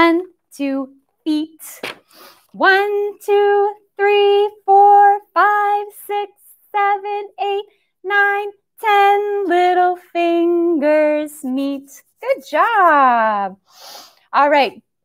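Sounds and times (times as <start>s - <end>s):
woman singing a nursery rhyme: 0.0s - 1.8s, 2.5s - 13.6s, 14.3s - 14.8s.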